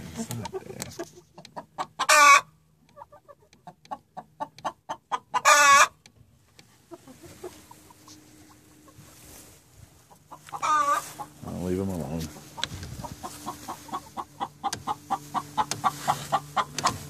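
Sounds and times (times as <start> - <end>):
hen cackling and squawking: 0.1 - 6.0, 6.7 - 11.6, 12.3 - 17.0.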